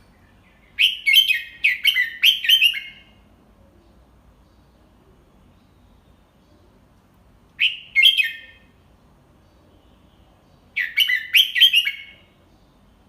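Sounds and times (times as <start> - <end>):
bird singing bright notes: 0.0 - 6.8, 7.6 - 8.8, 9.4 - 13.0.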